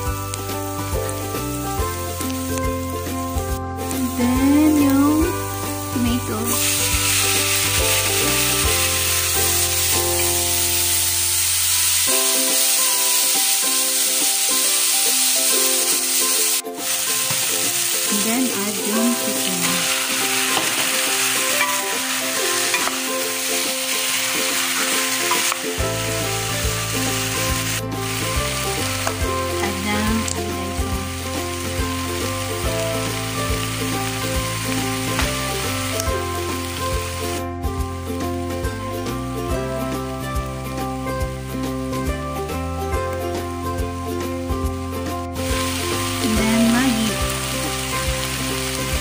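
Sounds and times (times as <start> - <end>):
background music: 0.0 - 49.0
food sizzling in hot oil: 0.0 - 49.0.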